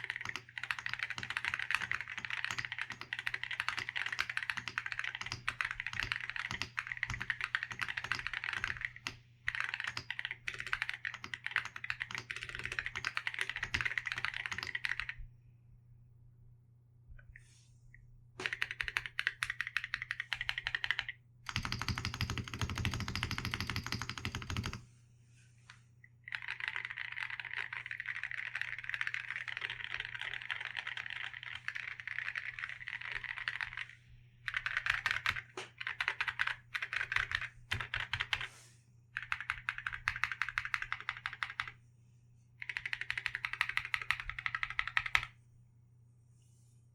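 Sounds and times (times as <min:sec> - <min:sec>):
mechanical keyboard typing: 0:00.0 - 0:15.2, 0:18.4 - 0:24.8, 0:26.3 - 0:38.5, 0:39.2 - 0:41.8, 0:42.6 - 0:45.3.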